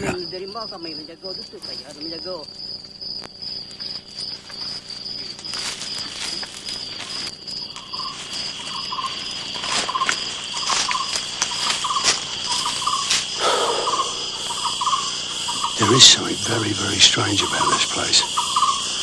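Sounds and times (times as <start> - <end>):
insects pulsing high chirp: 0.0 - 19.0.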